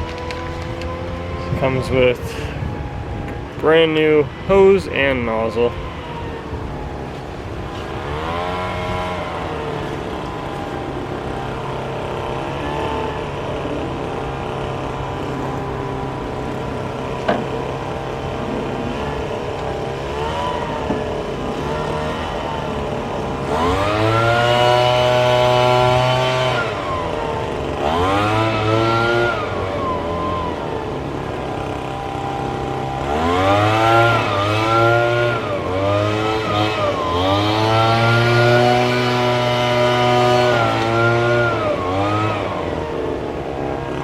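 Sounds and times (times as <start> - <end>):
engine revving: 0.0 - 44.0.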